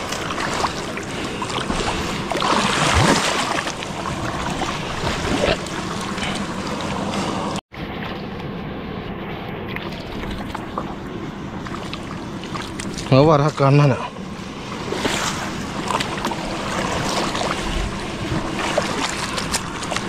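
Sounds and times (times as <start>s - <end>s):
shallow water splashing: 0.0s - 8.3s, 9.7s - 20.0s.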